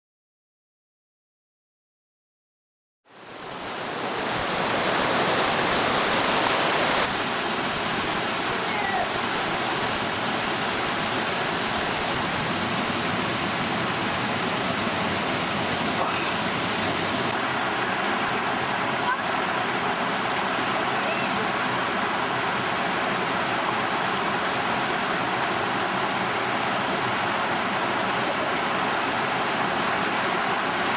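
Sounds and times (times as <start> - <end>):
waterfall rushing: 3.1 - 30.9.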